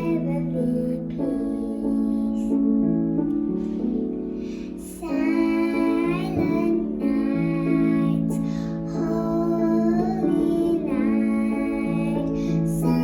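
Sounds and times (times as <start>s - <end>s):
girl singing a carol: 0.0s - 2.9s, 4.4s - 13.0s
keyboard accompaniment: 0.0s - 13.0s.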